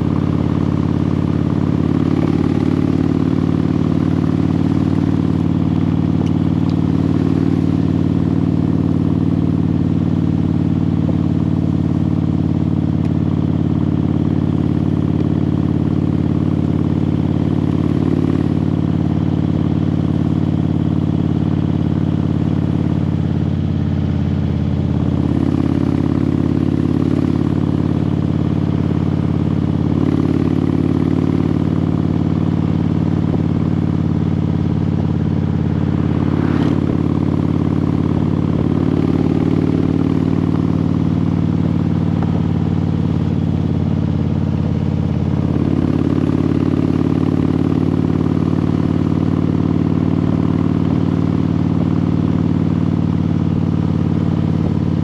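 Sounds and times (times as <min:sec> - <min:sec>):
engine droning steadily: 0:00.0 - 0:55.0.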